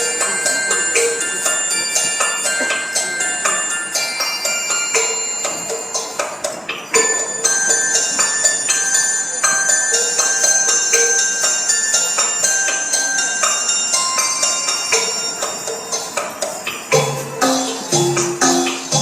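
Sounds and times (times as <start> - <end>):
dance music with ringing bell tones: 0.0 - 19.0.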